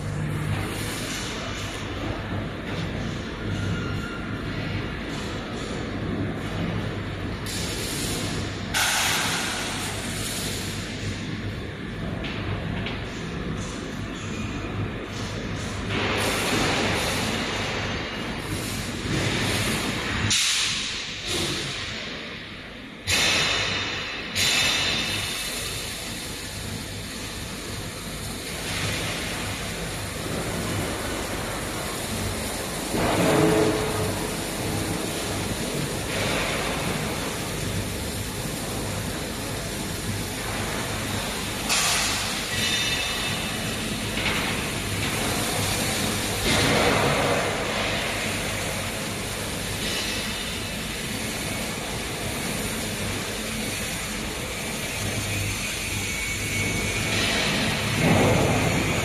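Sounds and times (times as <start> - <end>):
machine hum and drone: 0.0 - 59.0.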